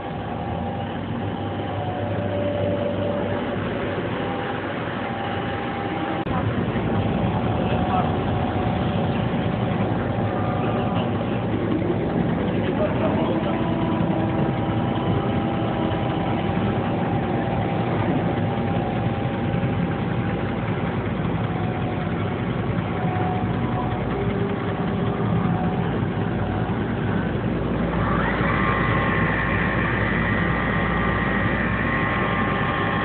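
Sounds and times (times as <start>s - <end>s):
lathe machine hum: 0.0s - 33.0s
machine whining tones: 0.0s - 33.0s.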